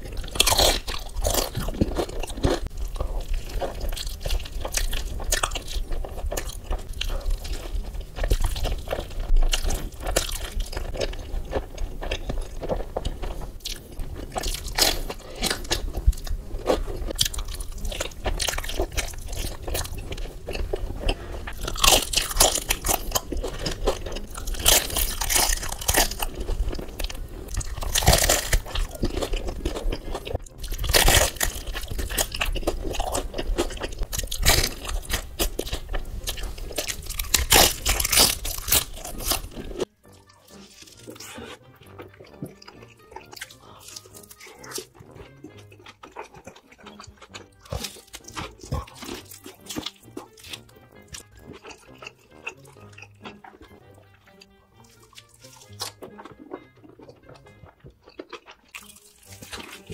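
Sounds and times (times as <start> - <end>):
biting and chewing food: 0.0 - 59.9.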